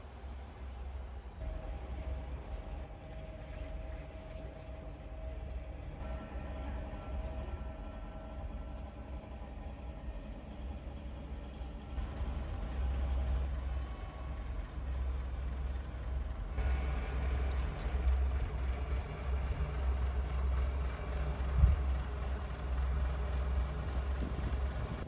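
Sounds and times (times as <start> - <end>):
diesel train engine rumble: 0.0 - 25.0.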